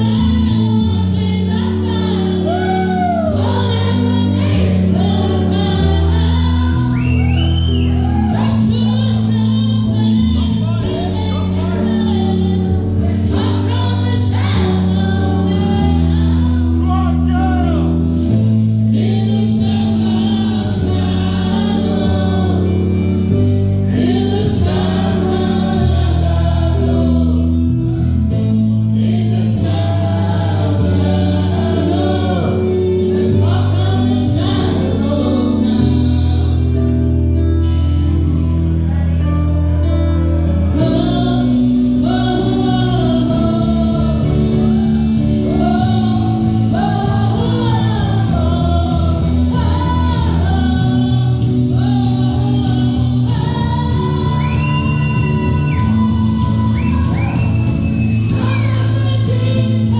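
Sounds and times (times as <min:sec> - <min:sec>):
woman singing into microphone: 0:00.0 - 0:18.0, 0:18.8 - 0:37.5, 0:38.8 - 0:59.9
loud backing track: 0:00.0 - 0:59.9.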